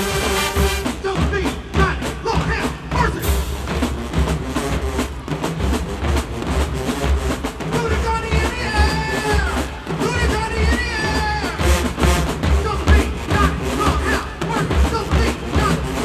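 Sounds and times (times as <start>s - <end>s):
bass drums beating: 0.0s - 16.0s
horns holding notes: 0.0s - 16.0s
marching band playing: 0.0s - 16.0s.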